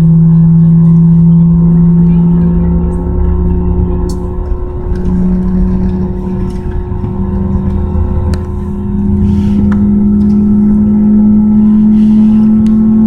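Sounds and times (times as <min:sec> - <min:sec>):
engine humming: 0:00.0 - 0:13.0
tone rising in pitch: 0:00.0 - 0:13.0.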